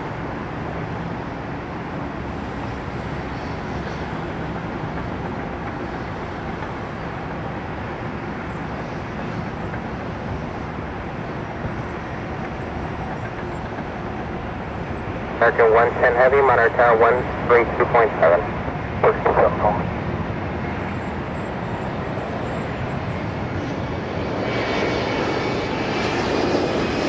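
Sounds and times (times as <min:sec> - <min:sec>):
jet engine roar: 0:00.0 - 0:27.0.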